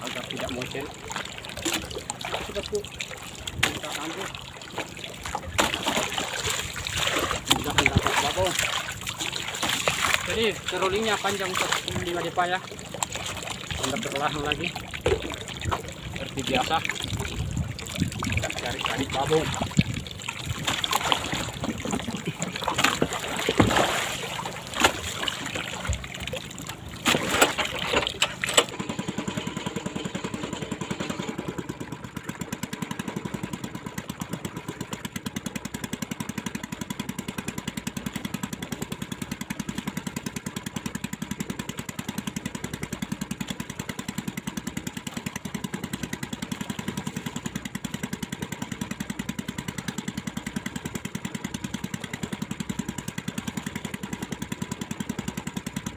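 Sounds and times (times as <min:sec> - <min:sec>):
water splashing: 0:00.0 - 0:32.6, 0:38.2 - 0:55.9
small boat engine running: 0:00.0 - 0:55.9.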